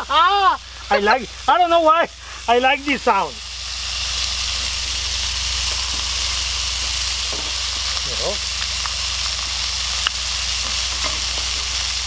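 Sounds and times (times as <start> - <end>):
burger patties sizzling: 0.0 - 12.0.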